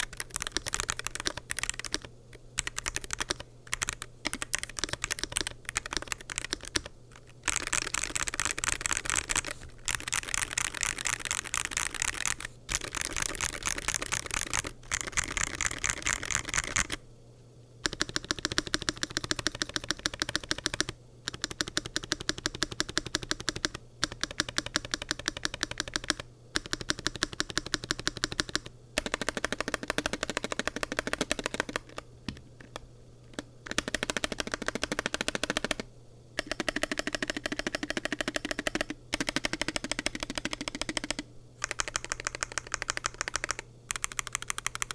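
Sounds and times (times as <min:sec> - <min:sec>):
rapid typing on mechanical keyboard: 0:00.0 - 0:17.0, 0:17.8 - 0:32.0, 0:32.6 - 0:44.9.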